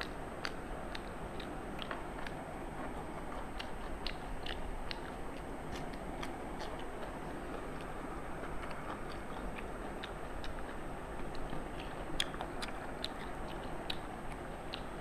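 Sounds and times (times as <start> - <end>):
people chewing with wet mouth sounds: 0.0 - 15.0
steady background hiss: 0.0 - 15.0.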